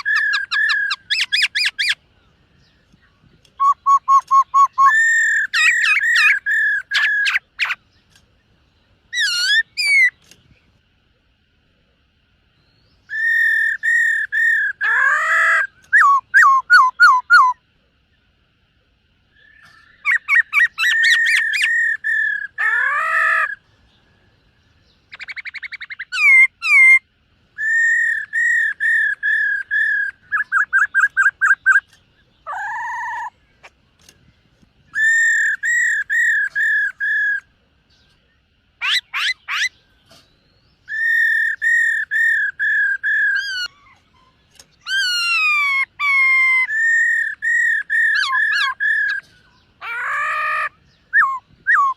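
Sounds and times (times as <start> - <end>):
bird whistling song: 0.0 - 10.7, 12.6 - 17.7, 19.3 - 51.9.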